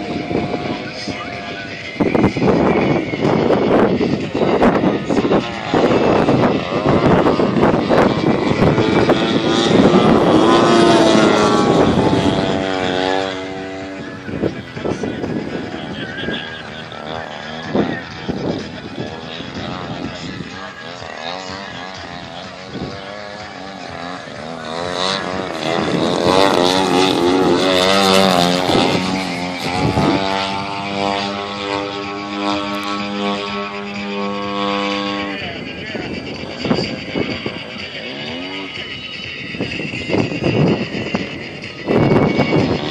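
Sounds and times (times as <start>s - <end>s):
model plane engine flyby: 0.0s - 42.9s.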